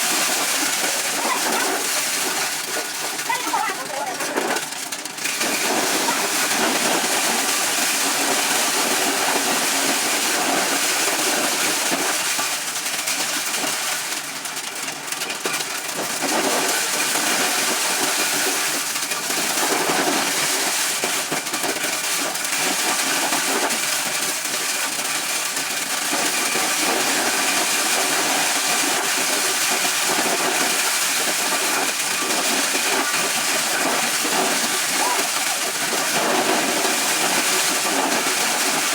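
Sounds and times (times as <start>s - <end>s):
corn-shelling machine running: 0.0s - 38.9s.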